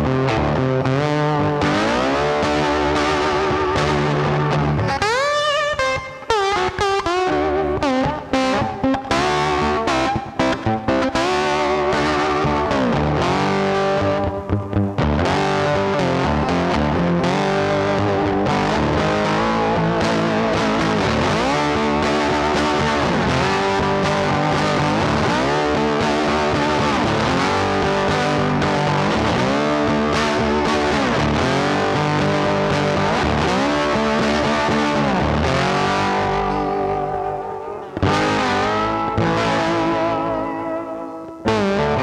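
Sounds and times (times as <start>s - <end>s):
rock music with distorted guitar: 0.0s - 42.0s.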